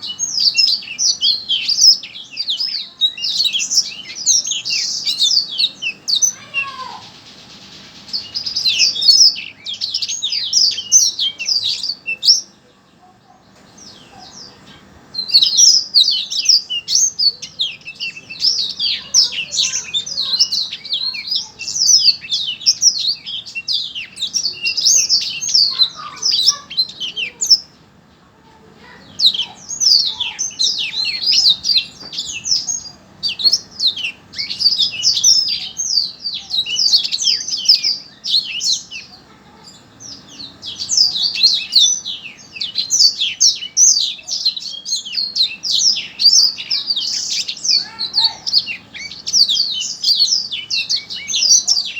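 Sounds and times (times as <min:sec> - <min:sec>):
songbird chirping song: 0:00.0 - 0:51.9.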